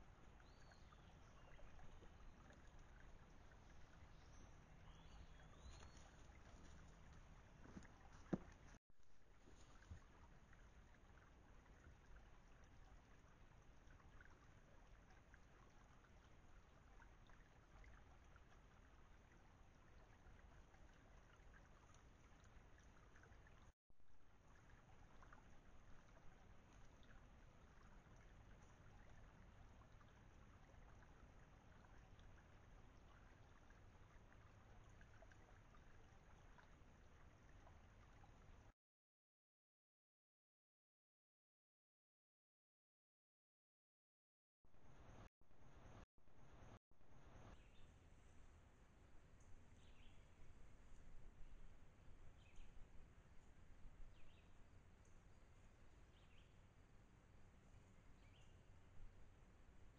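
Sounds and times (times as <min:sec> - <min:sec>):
faint steady hiss and hum: 0:00.0 - 0:38.7, 0:44.7 - 0:59.9.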